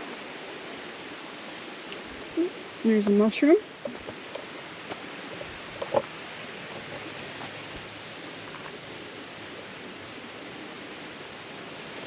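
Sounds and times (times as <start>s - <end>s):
creek flowing over rocks: 0.0s - 12.0s.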